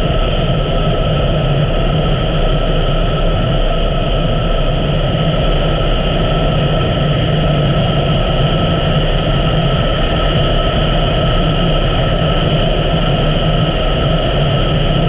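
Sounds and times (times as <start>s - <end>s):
constant hum: 0.0s - 15.0s
motorcycle engine running steadily: 0.0s - 15.0s.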